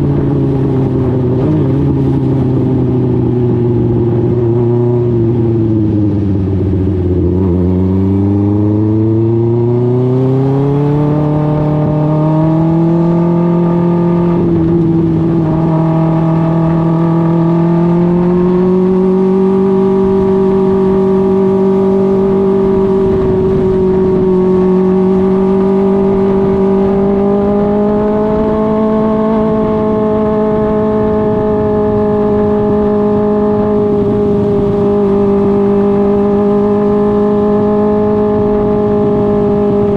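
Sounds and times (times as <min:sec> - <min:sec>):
race car engine running at speed: 0:00.0 - 0:39.9.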